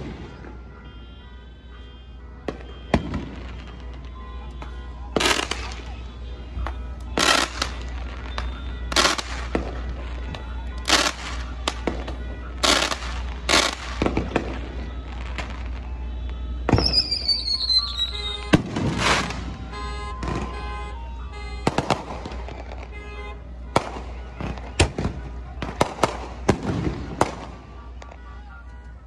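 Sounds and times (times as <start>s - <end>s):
fireworks bursting: 0.0s - 0.8s, 2.2s - 28.2s.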